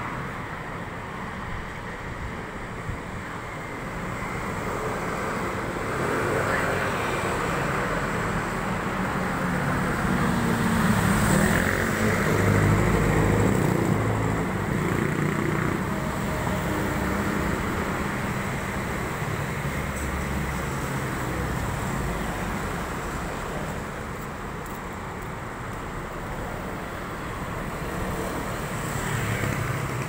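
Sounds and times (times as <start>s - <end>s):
passing cars and vans: 0.0s - 30.0s.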